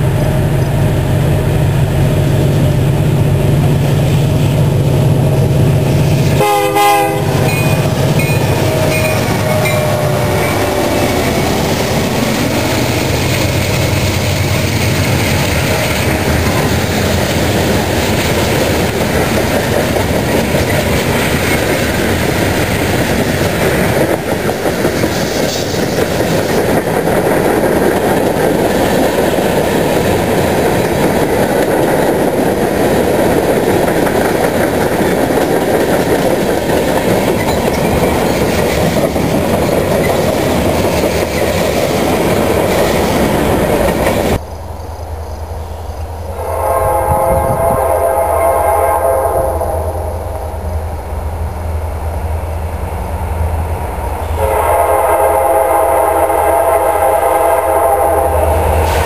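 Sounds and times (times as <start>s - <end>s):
diesel locomotives passing: 0.0s - 59.0s
freight train wheels on rail: 0.0s - 59.0s.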